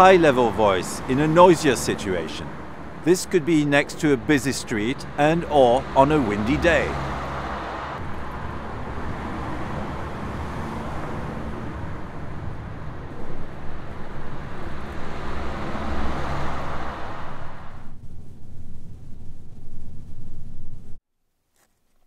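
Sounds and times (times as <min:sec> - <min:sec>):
motorbike passing: 0:00.0 - 0:18.0
cars passing: 0:00.0 - 0:18.4
low wind rumble: 0:00.0 - 0:21.0.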